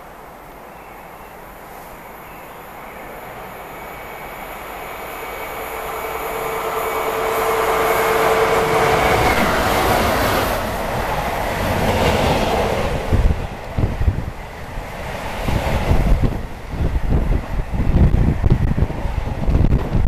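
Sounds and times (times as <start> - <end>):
locomotive steady tone: 0.0 - 20.0.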